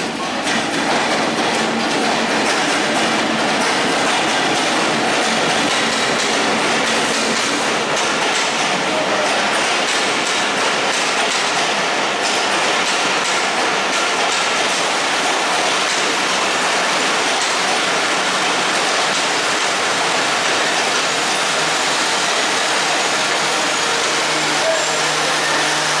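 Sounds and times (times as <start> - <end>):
train wheels rushing on rails: 0.0 - 26.0.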